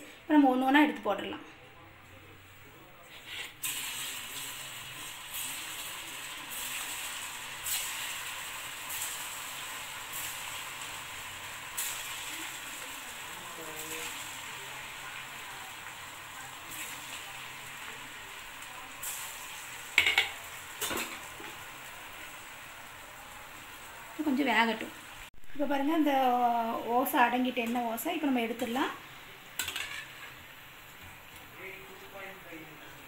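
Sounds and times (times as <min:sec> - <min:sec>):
deep-frying sizzle with pops: 0:03.3 - 0:33.0.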